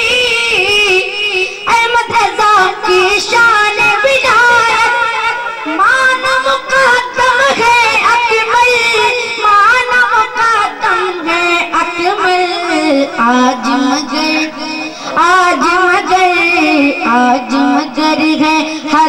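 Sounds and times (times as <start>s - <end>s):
boy singing devotional song: 0.0s - 19.0s.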